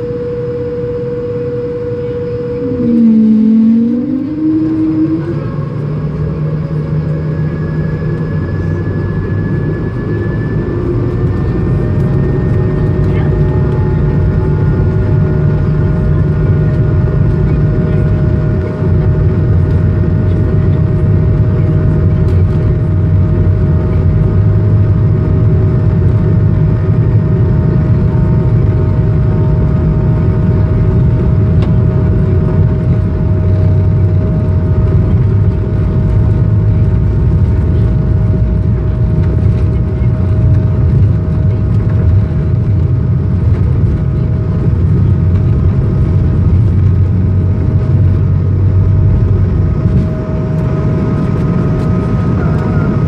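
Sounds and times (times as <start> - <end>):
jet engines low rumble and whine: 0.0 - 53.0.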